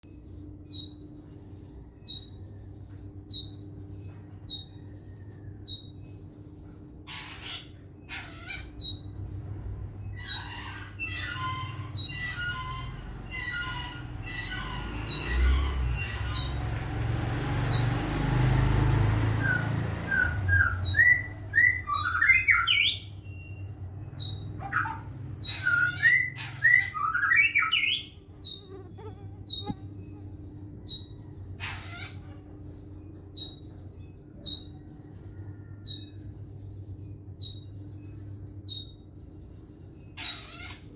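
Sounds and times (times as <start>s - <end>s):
cricket chirping: 0.0s - 7.1s, 7.9s - 40.9s
bird singing chirps and whistles: 0.0s - 17.9s, 18.6s - 40.9s.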